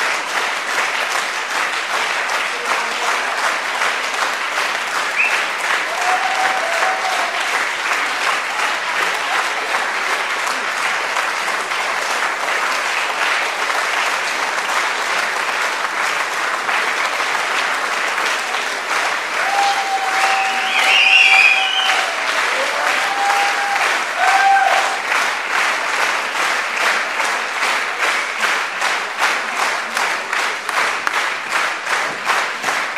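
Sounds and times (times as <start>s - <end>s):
audience applauding: 0.0s - 32.9s.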